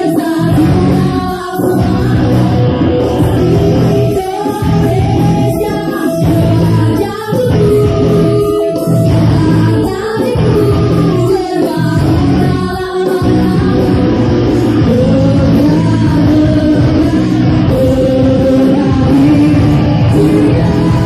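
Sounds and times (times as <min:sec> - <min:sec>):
song with singing and instruments: 0:00.0 - 0:21.0.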